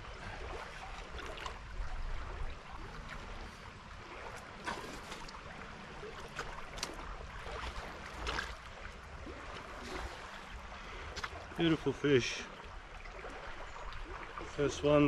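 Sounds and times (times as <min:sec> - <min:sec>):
stream water running: 0:00.0 - 0:15.0.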